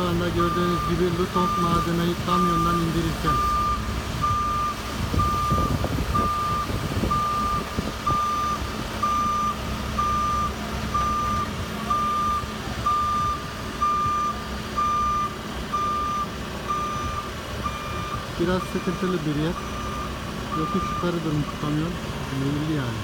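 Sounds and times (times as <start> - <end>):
reversing alarm beeping: 0.0 - 22.9.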